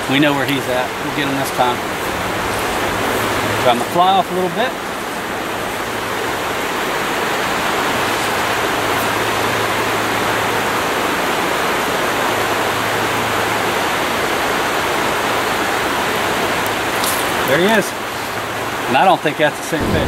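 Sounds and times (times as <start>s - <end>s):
rocky stream flowing: 0.0s - 20.0s.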